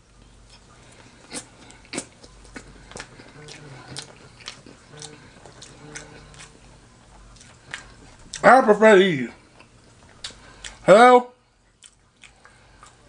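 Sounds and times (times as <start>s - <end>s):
chewing fries with crunches: 0.1s - 10.8s, 11.6s - 13.0s.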